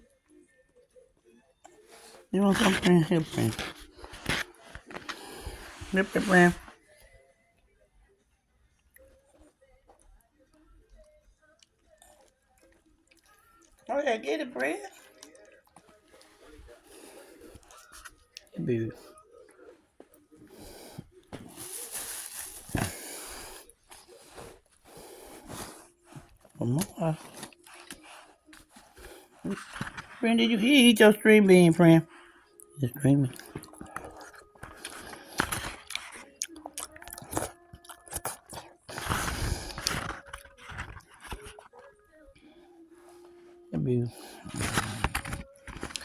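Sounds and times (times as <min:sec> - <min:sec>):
person chewing food: 0:01.6 - 0:07.1, 0:10.9 - 0:13.9, 0:14.9 - 0:30.2, 0:32.0 - 0:46.0
pet eating: 0:01.6 - 0:07.3, 0:09.0 - 0:46.0.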